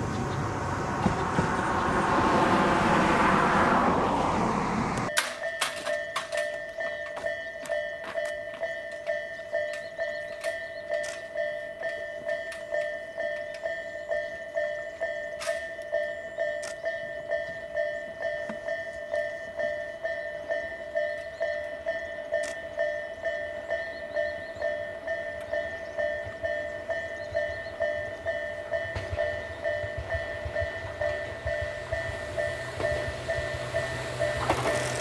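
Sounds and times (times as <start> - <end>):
electric train rumbling: 0.0 - 35.0
level crossing warning bell: 5.0 - 35.0.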